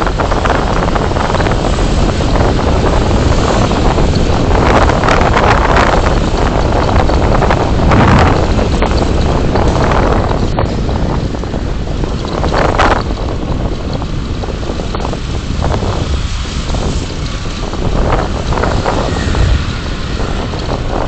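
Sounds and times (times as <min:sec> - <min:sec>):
car road rumble: 0:00.0 - 0:21.0
wind buffeting microphone: 0:00.0 - 0:21.0.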